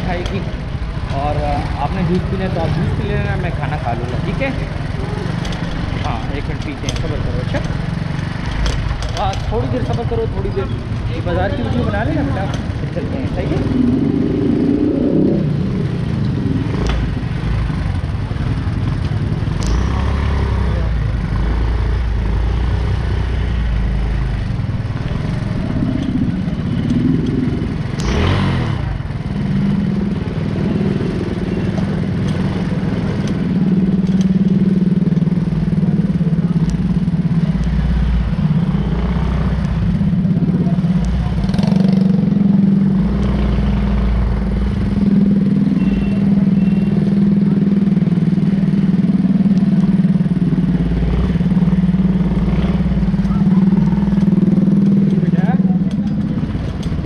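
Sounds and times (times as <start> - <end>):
city street traffic: 0.0 - 57.0
motorcycle engines running: 0.0 - 57.0.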